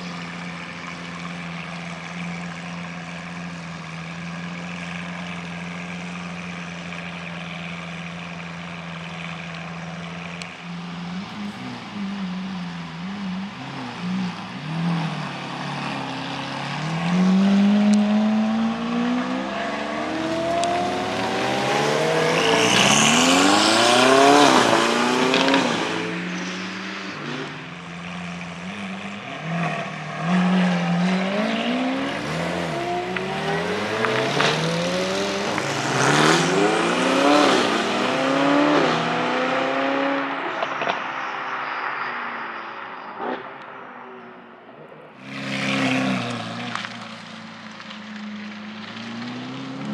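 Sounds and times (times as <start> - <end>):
car engines revving through gears: 0.0 - 49.9.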